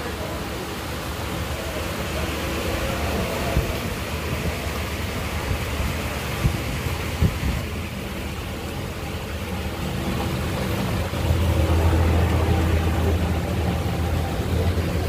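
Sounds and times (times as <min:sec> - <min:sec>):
engine running with low hum: 0:00.0 - 0:15.0.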